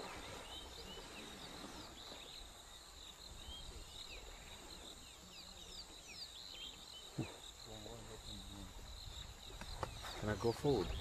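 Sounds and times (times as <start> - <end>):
birds chirping: 0.0 - 11.0
insect drone: 0.0 - 11.0.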